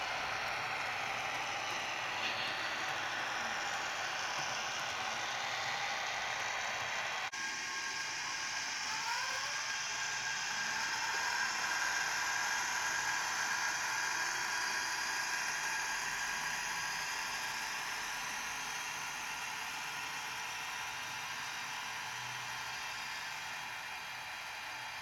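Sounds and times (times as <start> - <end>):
electric motor whine from speaker: 0.3 - 25.0.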